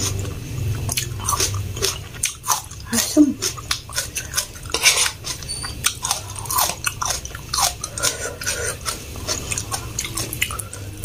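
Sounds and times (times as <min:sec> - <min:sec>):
person chewing noodles: 0:00.0 - 0:11.0.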